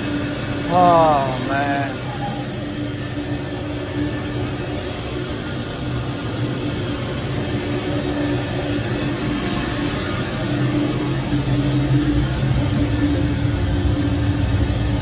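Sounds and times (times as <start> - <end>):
boiler burner and pumps running: 0.0 - 15.0.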